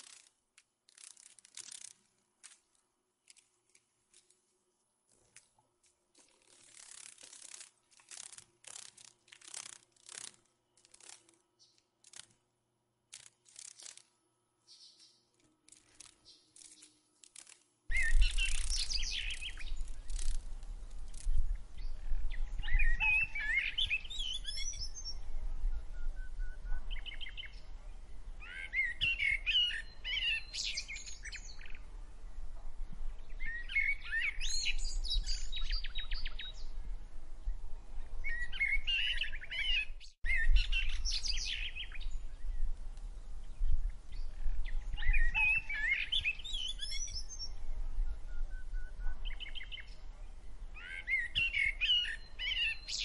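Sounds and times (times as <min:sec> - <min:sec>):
songbirds chirping: 0:02.5 - 0:53.0.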